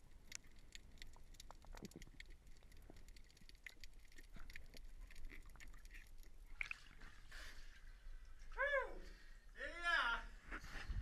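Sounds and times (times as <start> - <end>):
water dripping in a cave: 0.0 - 9.1.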